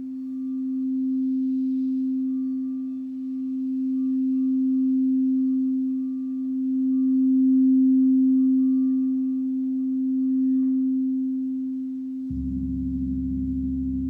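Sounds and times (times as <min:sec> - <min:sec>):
crystal singing bowl ringing: 0:00.0 - 0:14.0.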